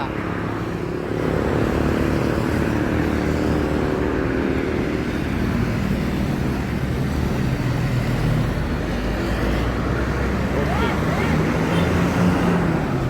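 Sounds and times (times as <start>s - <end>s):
bus engine running: 0.0s - 13.0s
road traffic noise: 0.0s - 13.0s.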